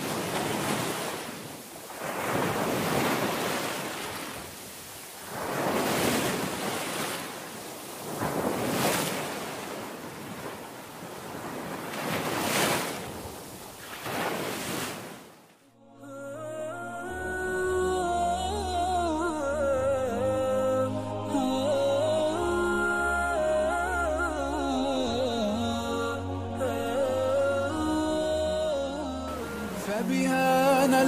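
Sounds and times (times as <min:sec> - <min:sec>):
ocean waves: 0:00.0 - 0:31.0.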